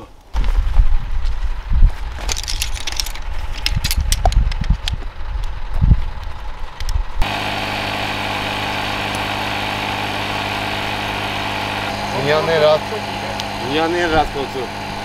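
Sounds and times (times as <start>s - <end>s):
steady motor hum: 0.4s - 15.0s.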